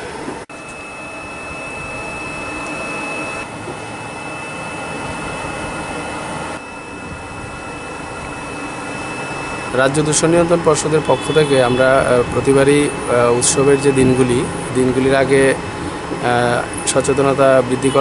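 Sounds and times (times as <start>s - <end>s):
blower motor rushing with high whine: 0.0s - 18.0s.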